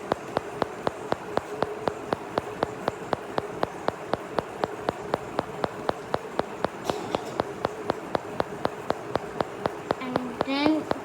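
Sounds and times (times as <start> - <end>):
faint steady hum: 0.0 - 11.0
sharp ticking clicks: 0.0 - 11.0.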